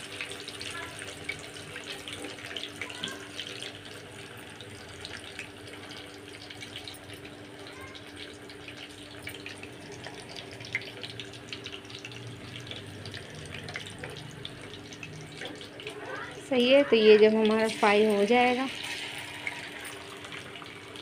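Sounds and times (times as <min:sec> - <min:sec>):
fish deep-frying in oil: 0:00.0 - 0:21.0.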